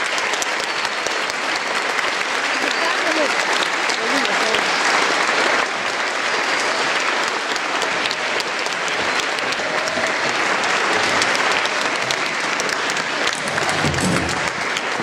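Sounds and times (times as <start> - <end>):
large audience applause: 0.0 - 15.0.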